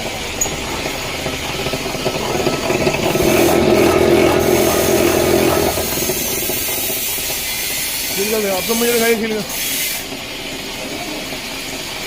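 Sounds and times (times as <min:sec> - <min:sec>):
wire stripping machine droning: 0:00.0 - 0:12.0.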